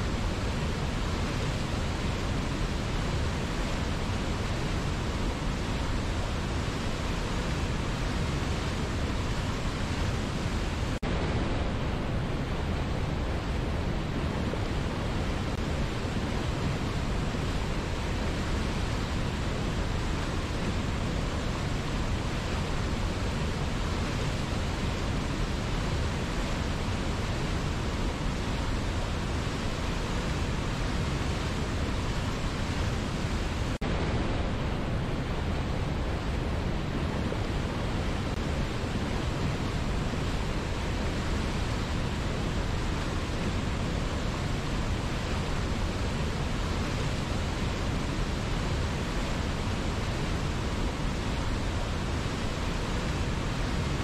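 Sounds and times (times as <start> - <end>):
river rapids and waterfall rushing: 0.0 - 54.0.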